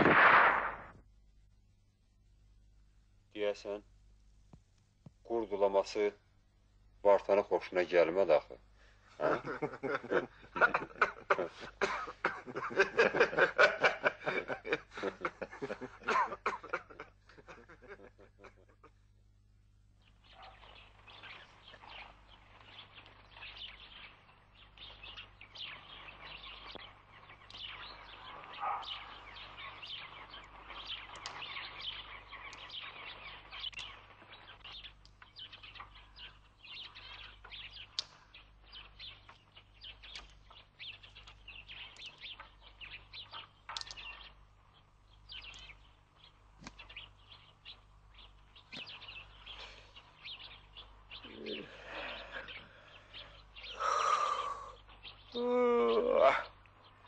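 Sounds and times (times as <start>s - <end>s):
low electrical hum: 0.0s - 57.0s
small birds chirping: 3.3s - 3.9s, 4.6s - 57.0s.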